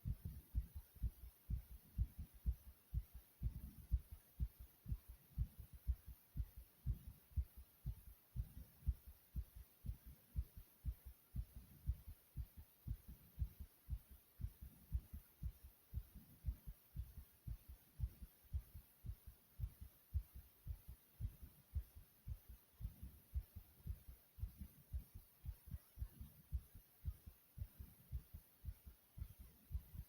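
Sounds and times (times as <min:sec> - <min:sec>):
fast heartbeat thumps: 0:00.0 - 0:30.0.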